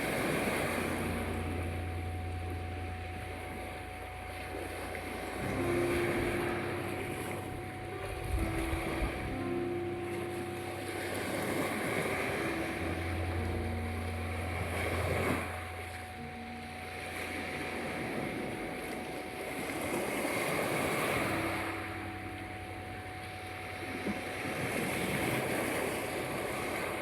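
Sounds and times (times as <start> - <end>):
sea waves washing ashore: 0.0 - 27.0
soft held music notes: 0.0 - 27.0
steady tone: 0.0 - 27.0.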